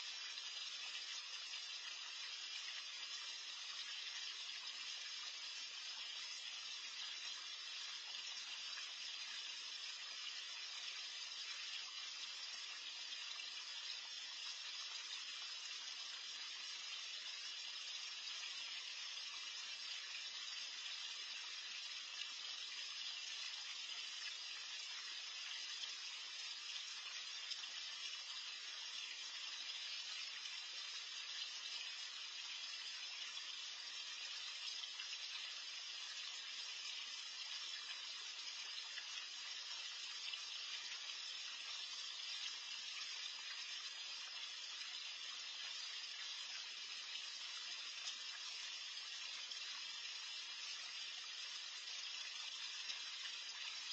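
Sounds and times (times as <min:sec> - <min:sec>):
hiss of churning pond water: 0:00.0 - 0:53.9.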